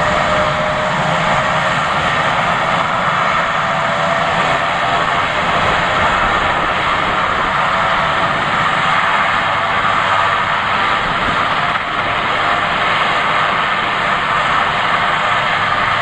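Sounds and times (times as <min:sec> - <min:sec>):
helicopter engines and rotor running: 0:00.0 - 0:16.0.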